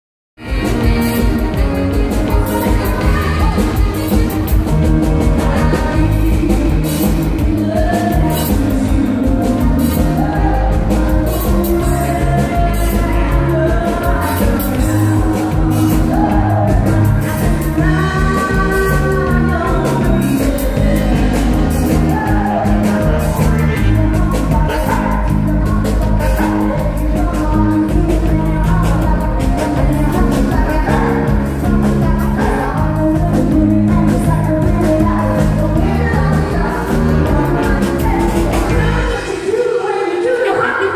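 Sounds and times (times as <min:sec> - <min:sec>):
electric guitar: 0:00.4 - 0:40.9
live band playing: 0:00.4 - 0:40.9
woman singing into microphone: 0:00.4 - 0:40.9.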